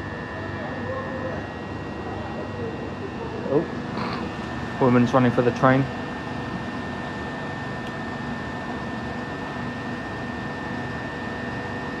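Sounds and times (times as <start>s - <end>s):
constant high whine: 0.0s - 12.0s.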